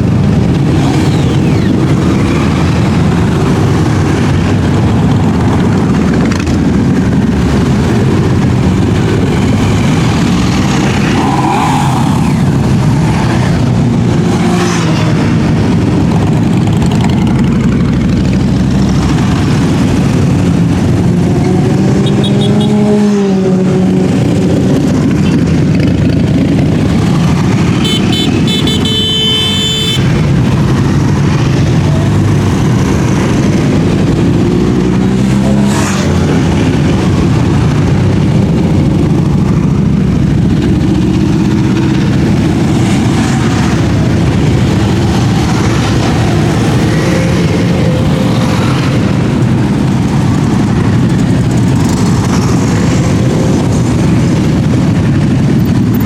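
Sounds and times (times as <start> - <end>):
motorcycles revving past: 0.0 - 56.0.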